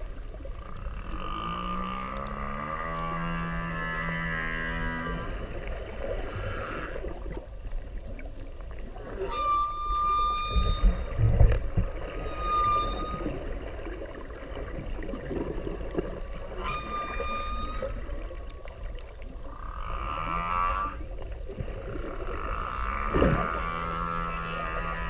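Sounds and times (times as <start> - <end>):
constant low rumble: 0.0 - 25.0
low steady hum: 0.0 - 25.0
whale calls: 0.6 - 7.4, 8.8 - 21.3, 22.0 - 25.0.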